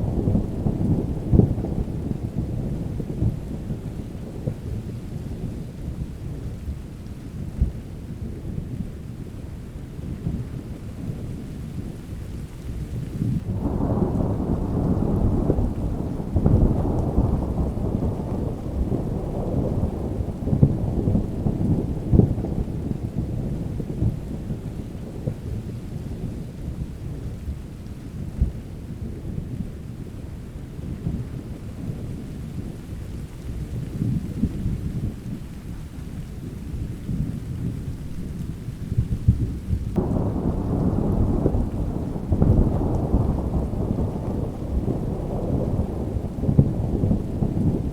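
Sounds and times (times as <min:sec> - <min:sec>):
rolling thunder: 0:00.0 - 0:09.1, 0:12.9 - 0:47.9
steady rain: 0:00.0 - 0:47.9.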